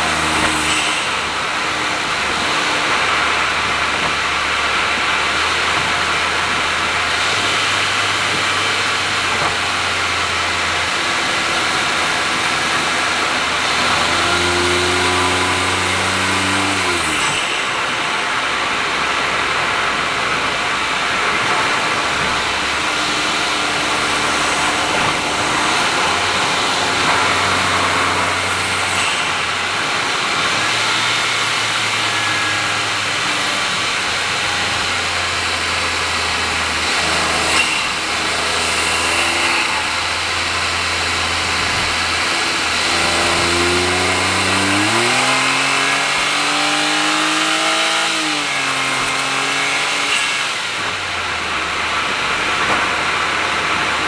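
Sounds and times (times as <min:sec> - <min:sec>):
car engine cruising: 0:00.0 - 0:54.0
tyre and road noise: 0:00.0 - 0:54.0.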